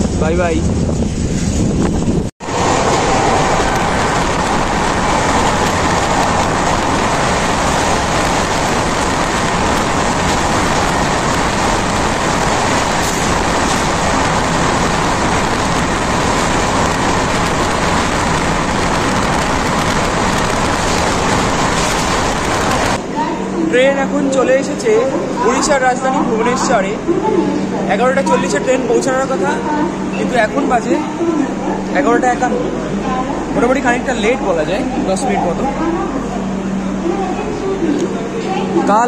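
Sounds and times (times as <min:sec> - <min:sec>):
train rushing on rails: 0:00.0 - 0:39.0.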